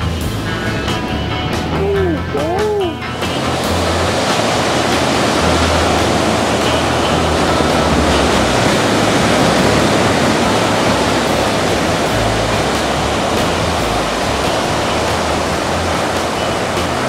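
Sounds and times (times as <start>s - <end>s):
ocean surf on beach: 0.0s - 17.0s.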